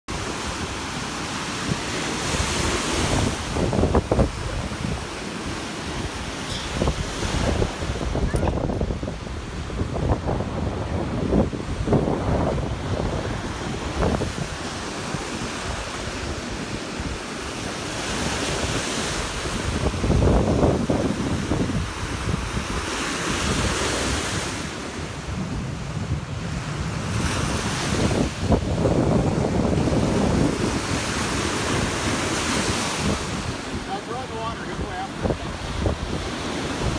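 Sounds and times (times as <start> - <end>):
small waves washing onto sand: 0.1 - 36.9
wind buffeting microphone: 0.1 - 36.9.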